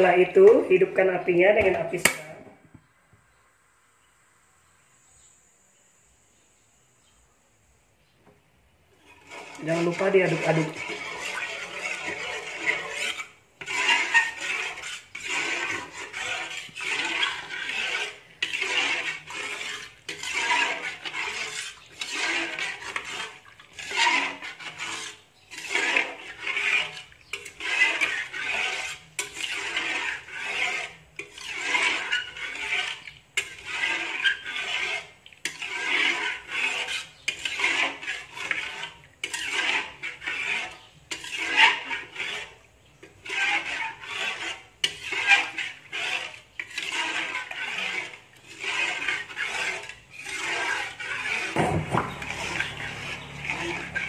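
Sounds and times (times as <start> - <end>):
spoon scraping batter in a wok: 0.0 - 54.0.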